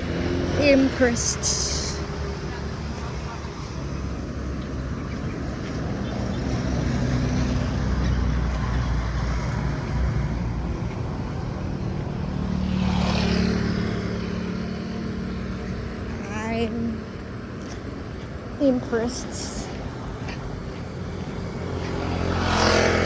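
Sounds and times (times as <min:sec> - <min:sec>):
vehicle passing close: 0:00.0 - 0:17.6, 0:18.9 - 0:23.0
road traffic: 0:00.0 - 0:23.0.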